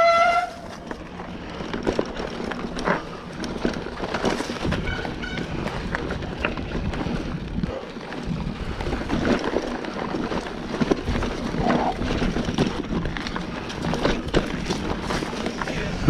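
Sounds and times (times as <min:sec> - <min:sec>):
bike rattling and knocking: 0:00.0 - 0:16.0.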